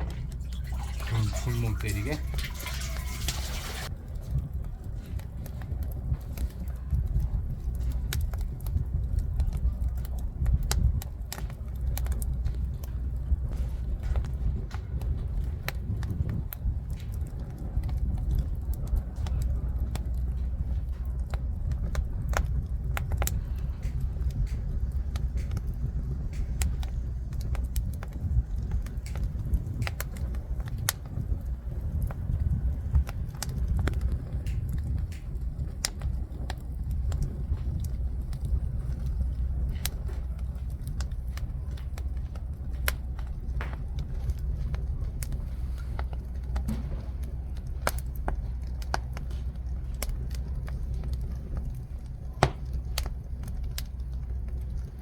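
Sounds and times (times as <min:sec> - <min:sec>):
low fire rumble: 0:00.0 - 0:55.0
wood fire crackling and popping: 0:00.0 - 0:55.0.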